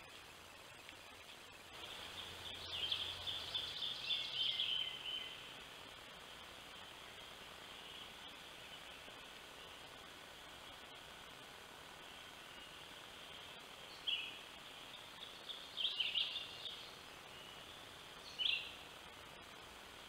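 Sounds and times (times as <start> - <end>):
background hiss: 0.0 - 20.0
faint steady high sound: 0.0 - 20.0
songbird singing: 0.0 - 20.0.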